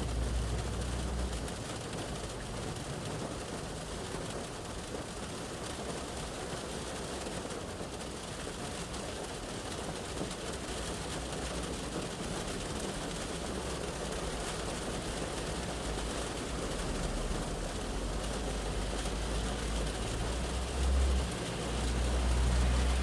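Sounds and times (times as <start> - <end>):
traffic rumble: 0.0 - 9.4, 10.1 - 23.0
rain on car roof and glass: 0.0 - 23.0.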